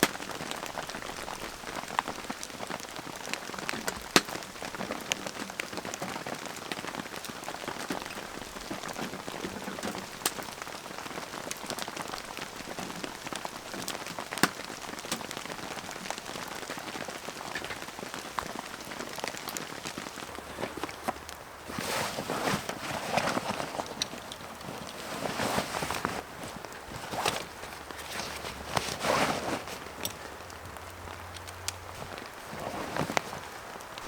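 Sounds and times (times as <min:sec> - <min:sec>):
raindrops ticking on a surface: 0:00.0 - 0:34.0
steady rain hiss: 0:00.0 - 0:34.0.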